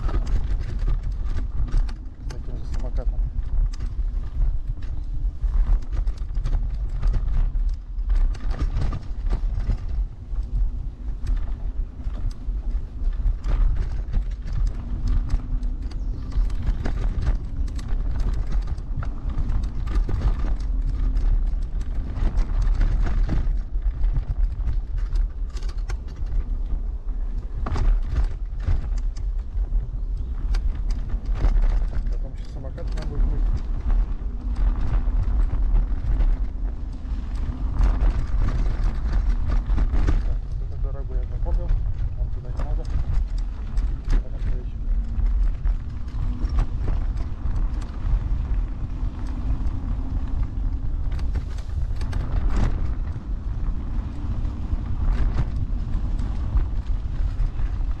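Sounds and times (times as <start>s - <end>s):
electric scooter rumbling on rough track: 0.0s - 58.0s.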